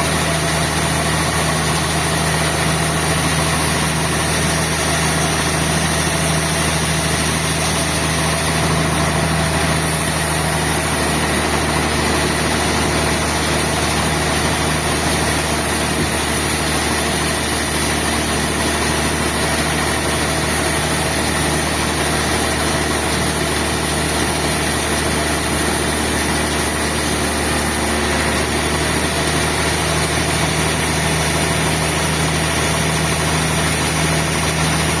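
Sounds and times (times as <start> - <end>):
sawmill machinery droning: 0.0 - 35.0.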